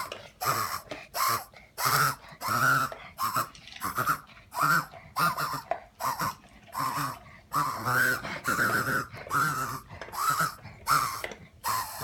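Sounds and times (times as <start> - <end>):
dog wheezing: 0.0 - 12.0.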